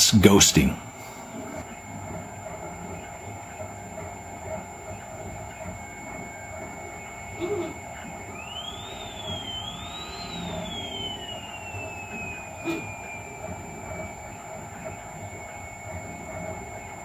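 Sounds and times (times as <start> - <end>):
fan hum: 0.0 - 17.0
stepper motors whining: 0.0 - 17.0.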